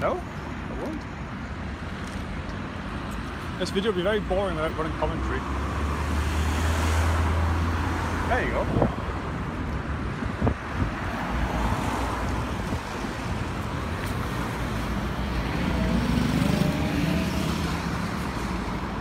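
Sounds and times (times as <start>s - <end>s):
hum of passing cars: 0.0s - 19.0s.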